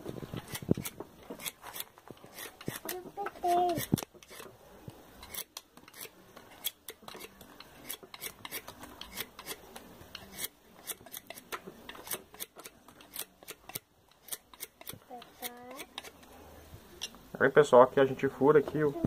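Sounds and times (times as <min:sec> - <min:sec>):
knife blade scraping wood: 0:00.4 - 0:04.6, 0:05.2 - 0:16.3.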